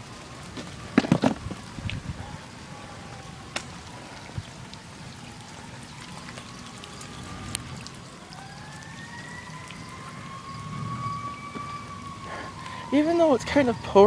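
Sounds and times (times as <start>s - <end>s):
distant siren wailing: 0.0s - 14.0s
pouring rain: 0.0s - 14.0s
raindrops ticking: 0.0s - 14.0s.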